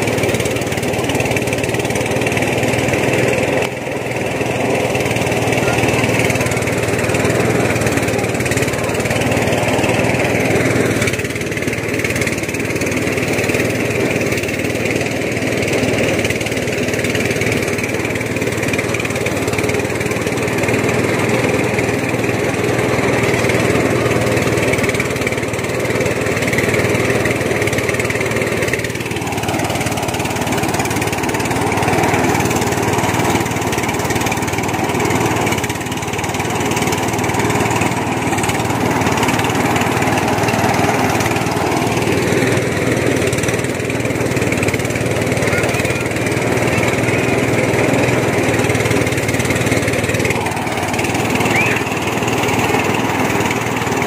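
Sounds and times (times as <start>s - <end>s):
harvesting machine engine running: 0.0s - 54.0s.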